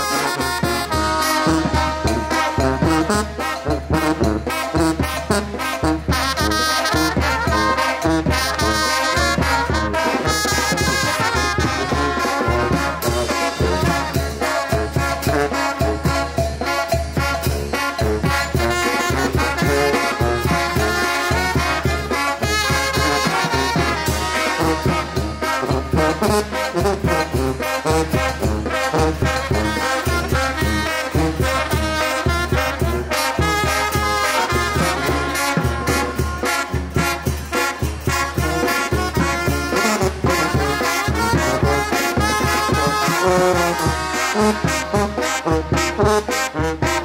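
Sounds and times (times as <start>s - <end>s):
brass band playing cumbia: 0.0s - 47.0s.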